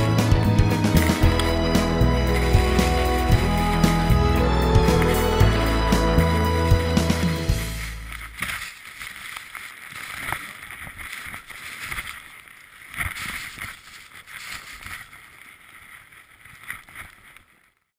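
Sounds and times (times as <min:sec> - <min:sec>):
skis hissing through powder snow: 0:00.9 - 0:17.6.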